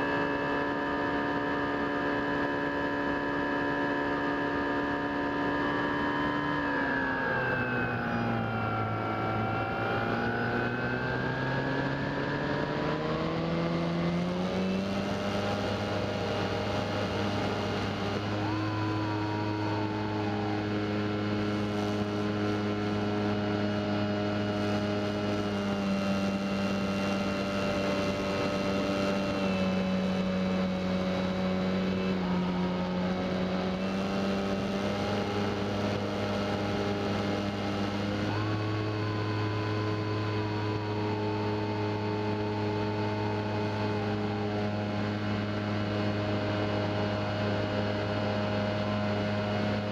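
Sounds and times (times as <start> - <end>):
electric motor whine: 0.0 - 49.9
propeller drone: 0.0 - 49.9.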